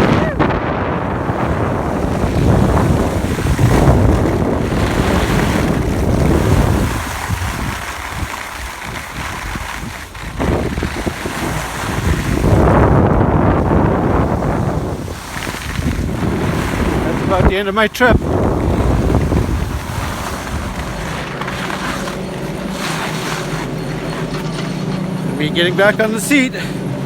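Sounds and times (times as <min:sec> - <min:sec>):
wind rushing over microphone: 0:00.0 - 0:24.4
skis hissing on snow: 0:01.3 - 0:12.8, 0:13.6 - 0:24.5.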